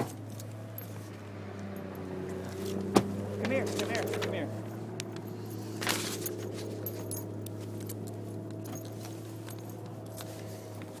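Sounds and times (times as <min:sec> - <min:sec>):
car engine idling: 0:00.0 - 0:11.0
light metallic jingling: 0:00.1 - 0:11.0.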